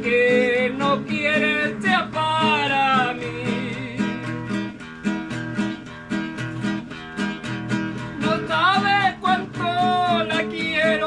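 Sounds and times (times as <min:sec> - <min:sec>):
acoustic guitar strumming: 0:00.0 - 0:11.0
person singing folk song: 0:00.0 - 0:11.0.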